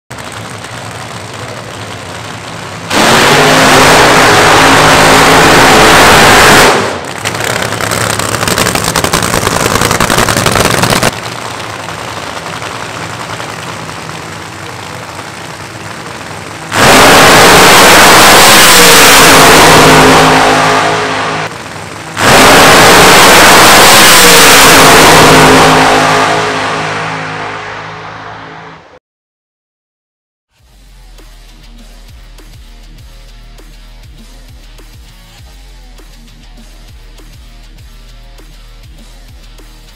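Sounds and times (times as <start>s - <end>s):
drag racing engines idling: 0.1s - 28.8s, 30.7s - 39.9s
full-throttle engine blasts: 0.1s - 29.0s, 30.6s - 39.9s.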